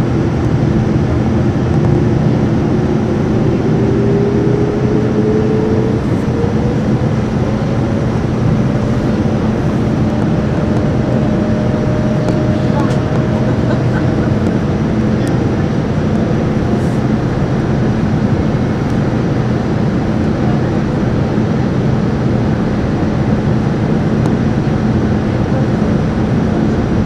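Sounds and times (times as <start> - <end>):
engine and airflow rush: 0.0 - 27.0
low cabin hum: 0.0 - 27.0.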